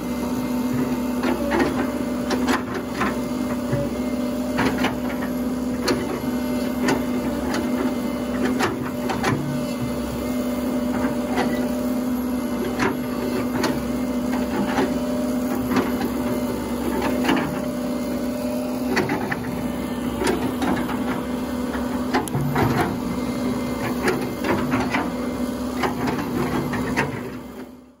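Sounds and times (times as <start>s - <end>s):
excavator engine running: 0.0s - 28.0s.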